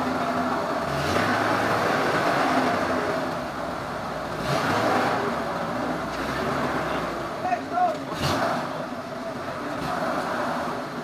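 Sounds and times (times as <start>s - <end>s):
heavy machinery engine revving: 0.0s - 11.0s.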